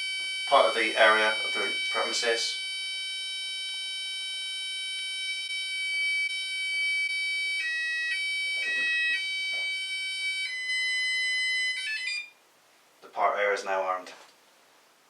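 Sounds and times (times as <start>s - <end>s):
alarm system high-pitched beep tone: 0.0s - 12.4s.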